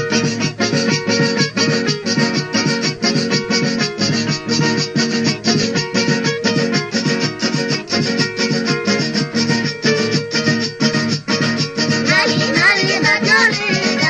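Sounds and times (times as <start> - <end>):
andean folk music with plucked strings: 0.0 - 14.0.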